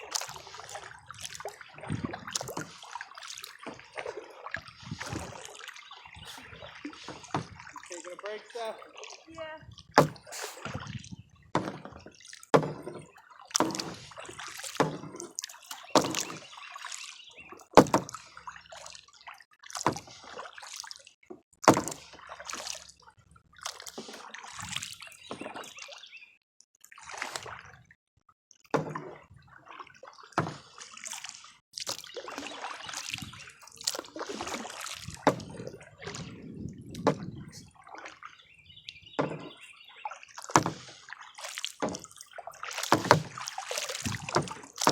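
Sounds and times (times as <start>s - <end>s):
water dripping off paddle: 0.0s - 26.0s, 28.8s - 44.9s
paddle splashing water: 0.0s - 26.2s, 26.8s - 27.8s, 28.7s - 44.9s.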